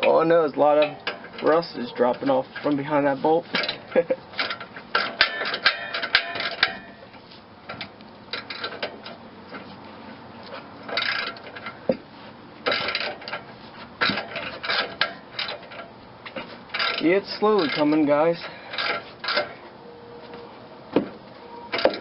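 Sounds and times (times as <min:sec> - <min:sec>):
wrench clicking and scraping: 0:00.8 - 0:09.8, 0:10.4 - 0:19.7.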